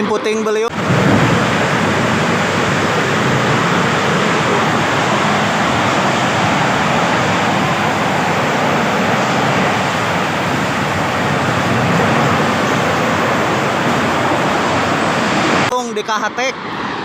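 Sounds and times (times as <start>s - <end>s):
storm wind roaring: 0.7s - 15.7s.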